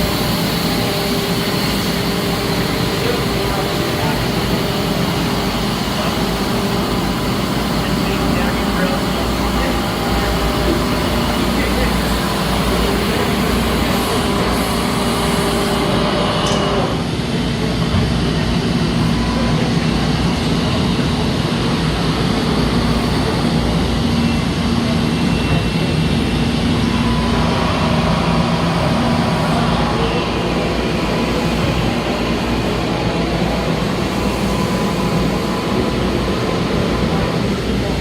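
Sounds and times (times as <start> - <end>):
lathe machining noise: 0.0 - 38.0.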